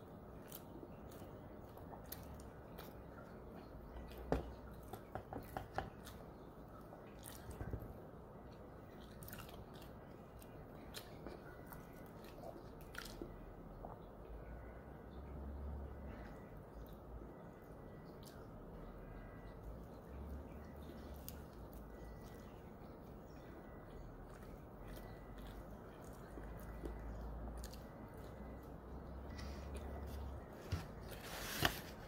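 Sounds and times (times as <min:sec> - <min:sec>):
chewing with wet mouth clicks: 0:00.0 - 0:14.3, 0:16.2 - 0:30.6.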